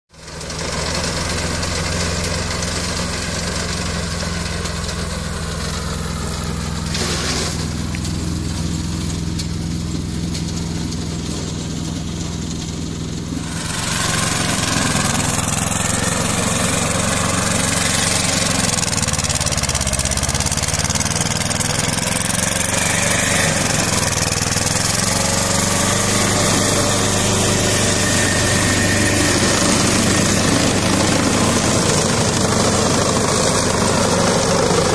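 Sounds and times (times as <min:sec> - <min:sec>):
tractor diesel engine under load: 0:00.1 - 0:34.9
brush cutter cutting grass: 0:00.2 - 0:34.9.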